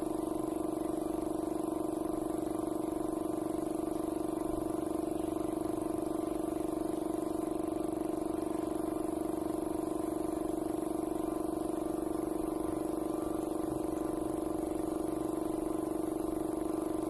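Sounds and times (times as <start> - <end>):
motor humming with fast pulse: 0.0 - 17.0.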